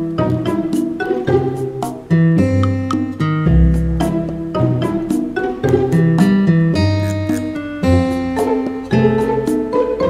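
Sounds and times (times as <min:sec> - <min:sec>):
plucked string melody: 0:00.0 - 0:10.0.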